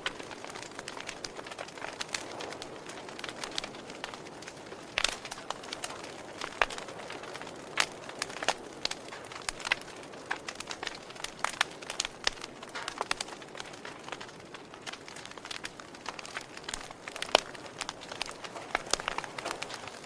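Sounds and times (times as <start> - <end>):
fire crackling and popping: 0.0 - 20.0
low hiss of fire: 0.0 - 20.0.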